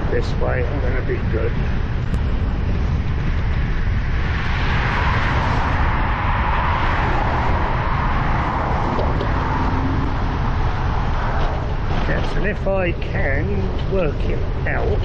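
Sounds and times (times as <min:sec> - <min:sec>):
car passing: 0:00.0 - 0:15.0
wind on microphone: 0:00.0 - 0:15.0.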